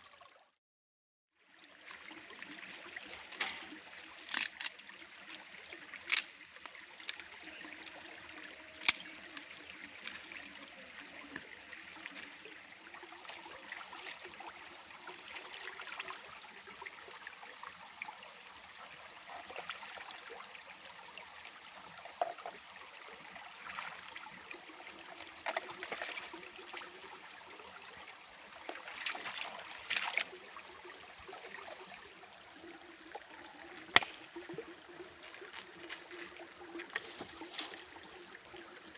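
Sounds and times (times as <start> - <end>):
river water trickling: 1.4 - 38.9.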